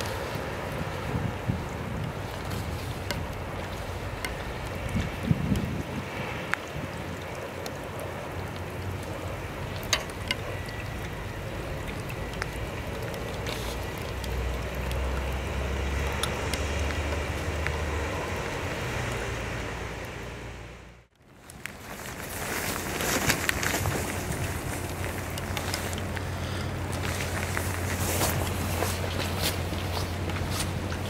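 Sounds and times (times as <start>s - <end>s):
raindrops ticking: 0.0s - 20.4s, 21.1s - 31.0s
wind gust on microphone: 0.0s - 20.6s, 22.0s - 31.0s
rain: 0.0s - 31.0s.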